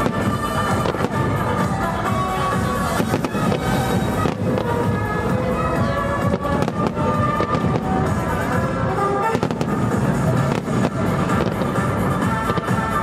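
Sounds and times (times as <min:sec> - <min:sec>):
fireworks bursting: 0:00.0 - 0:13.0
loud music with sustained tones: 0:00.0 - 0:13.0.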